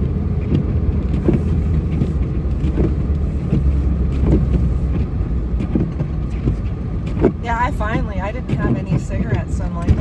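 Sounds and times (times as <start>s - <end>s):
road noise inside cab: 0.0s - 10.0s
truck engine rumble: 0.0s - 10.0s.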